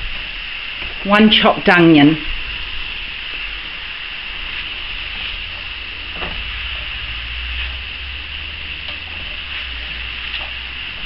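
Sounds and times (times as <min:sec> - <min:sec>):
vegetables sizzling in butter: 0:00.0 - 0:11.0.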